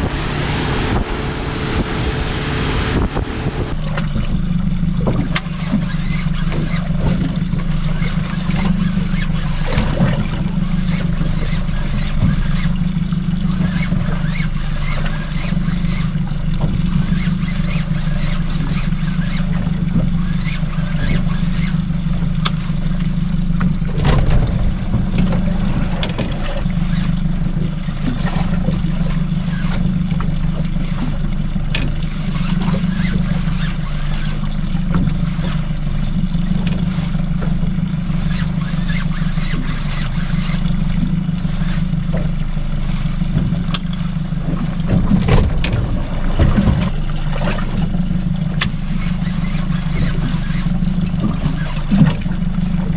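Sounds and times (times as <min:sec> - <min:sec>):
boat engine humming: 0:00.0 - 0:52.9
water splashing against hull: 0:00.0 - 0:52.9.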